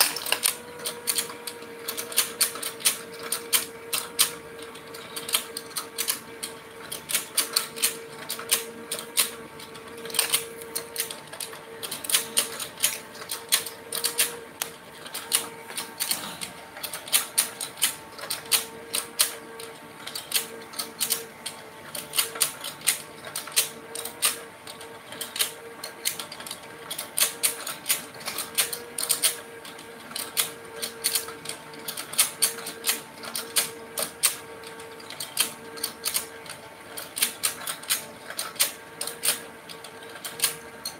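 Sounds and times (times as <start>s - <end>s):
steady motor hum: 0.0s - 40.9s
toy mechanism clicking and clattering: 0.0s - 40.9s.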